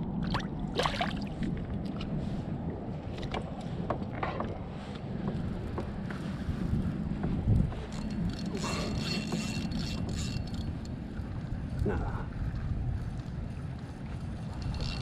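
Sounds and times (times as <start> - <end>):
steady low rumble: 0.0 - 8.9, 10.5 - 15.0.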